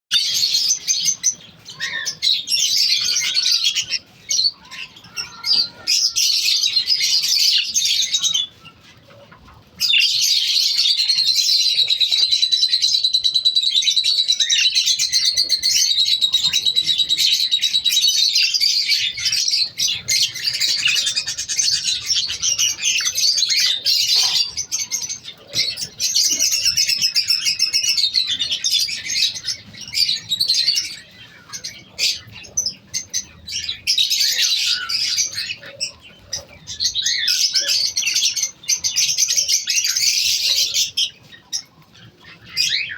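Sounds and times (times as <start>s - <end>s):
small birds chirping: 0.1s - 42.9s.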